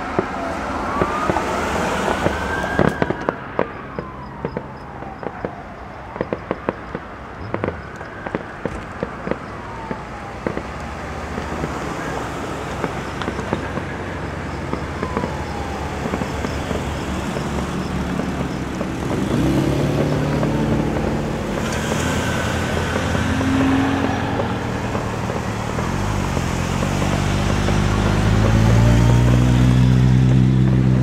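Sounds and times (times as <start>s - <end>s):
fireworks crackling and popping: 0.0s - 31.0s.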